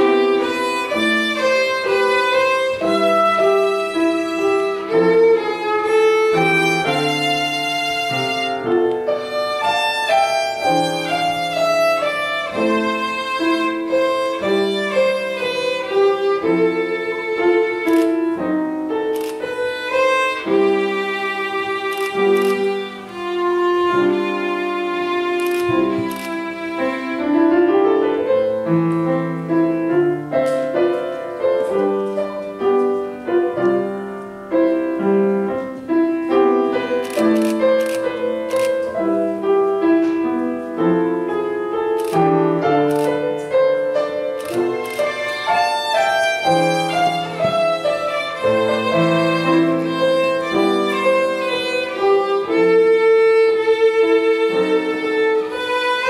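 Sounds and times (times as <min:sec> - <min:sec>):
piano accompaniment: 0:00.0 - 0:56.0
violin melody: 0:00.0 - 0:56.0.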